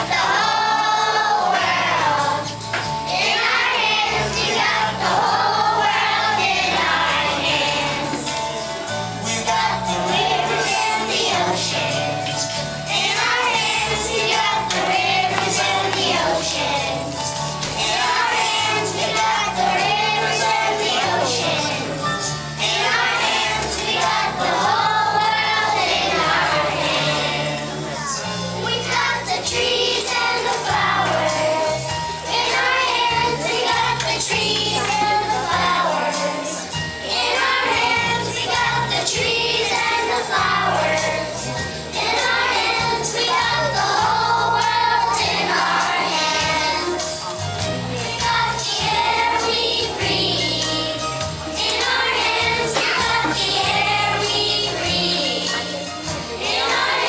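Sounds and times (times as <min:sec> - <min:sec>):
children singing in unison: 0:00.0 - 0:57.0
instrumental accompaniment with bass: 0:00.0 - 0:57.0.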